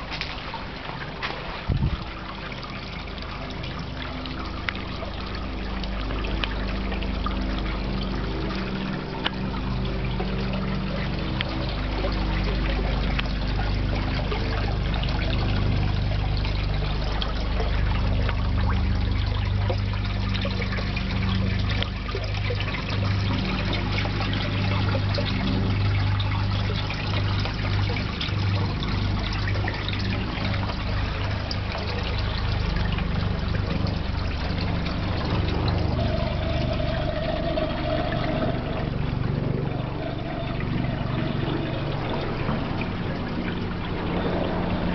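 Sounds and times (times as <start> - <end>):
steady low hum: 0.0 - 44.9
water trickling into fish tank: 0.0 - 44.9.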